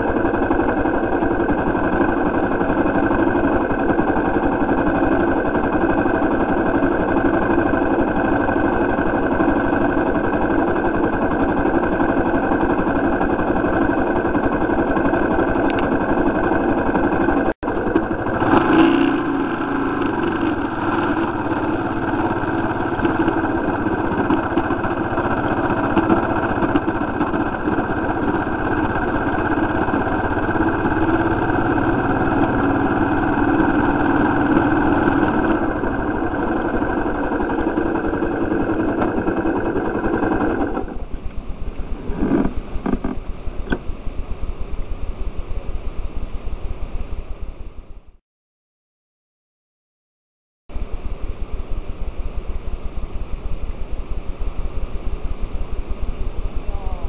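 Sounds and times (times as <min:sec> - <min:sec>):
motorcycle engine running: 0:00.0 - 0:48.2, 0:50.7 - 0:57.0.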